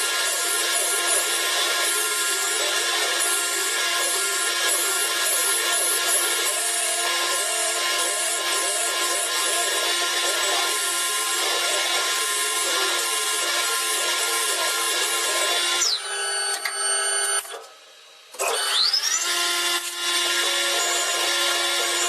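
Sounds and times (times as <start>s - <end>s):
machine tool whining: 0.0s - 22.0s.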